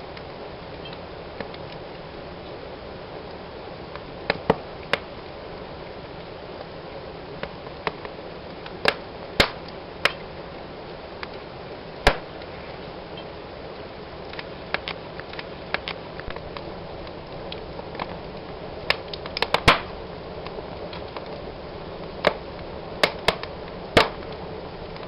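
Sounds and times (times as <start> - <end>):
fire crackling and popping: 0.0 - 25.0
fire hissing: 0.0 - 25.0.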